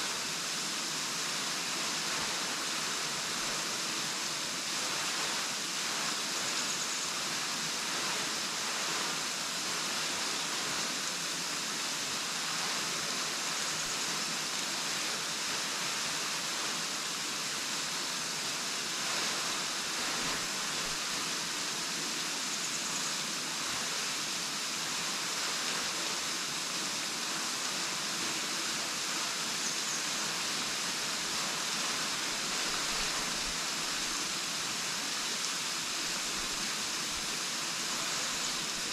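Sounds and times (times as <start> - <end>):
waterfall splashing: 0.0 - 38.9.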